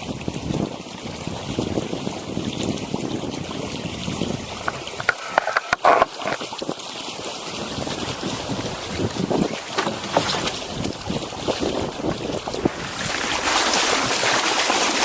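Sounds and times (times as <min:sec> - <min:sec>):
wind buffeting microphone: 0:00.0 - 0:06.8, 0:07.4 - 0:14.2
water splashing along hull: 0:00.0 - 0:15.0.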